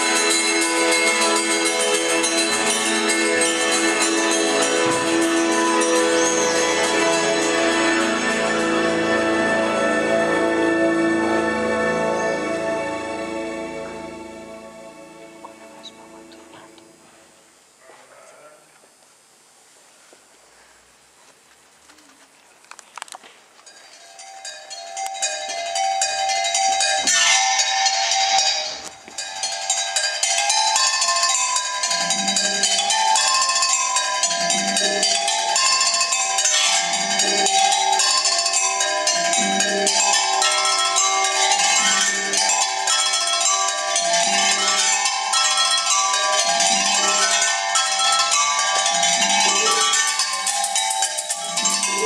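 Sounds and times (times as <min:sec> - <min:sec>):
instrumental music: 0:00.0 - 0:17.2, 0:23.7 - 0:52.0.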